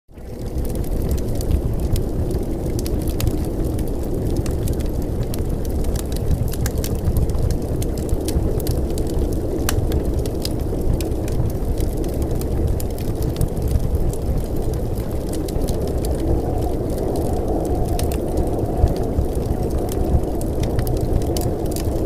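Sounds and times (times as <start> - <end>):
low rumbling noise: 0.1 - 22.0
sharp crackles and clicks: 0.2 - 22.0.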